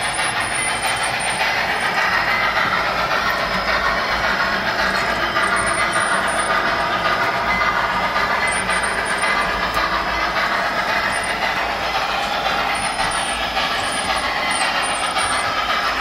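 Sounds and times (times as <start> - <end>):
model train wheels on rail: 0.0 - 16.0.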